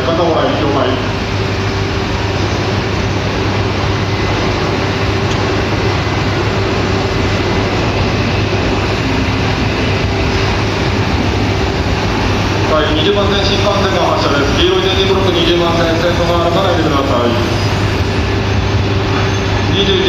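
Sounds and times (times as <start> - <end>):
train equipment hum and rush: 0.0 - 20.0.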